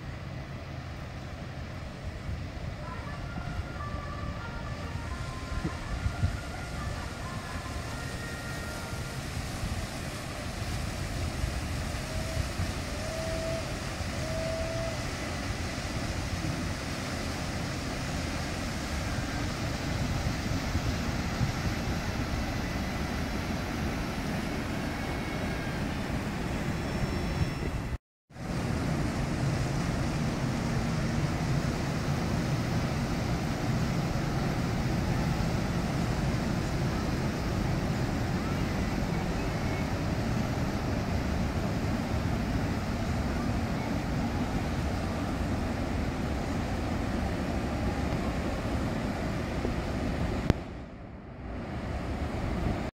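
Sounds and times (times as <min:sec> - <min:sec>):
wind on microphone: 0:00.0 - 0:52.9.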